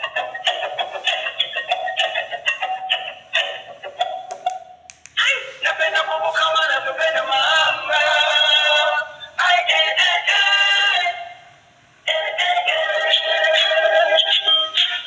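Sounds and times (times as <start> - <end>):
toy playing song through tinny speaker: 0.0 - 4.8, 5.5 - 11.3, 12.1 - 15.0.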